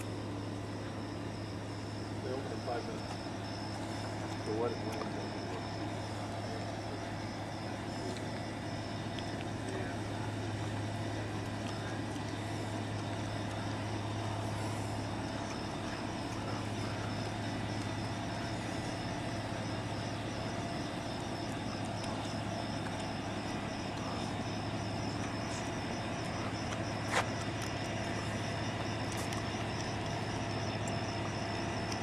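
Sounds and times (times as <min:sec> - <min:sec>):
constant hiss: 0:00.0 - 0:32.0
low mechanical hum: 0:00.0 - 0:32.0.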